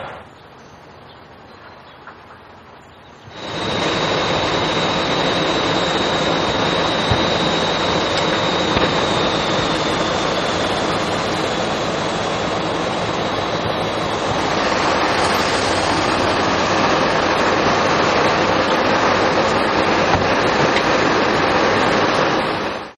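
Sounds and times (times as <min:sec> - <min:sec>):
faint high whine: 0:02.6 - 0:22.9
hose jets spraying water: 0:03.4 - 0:22.2.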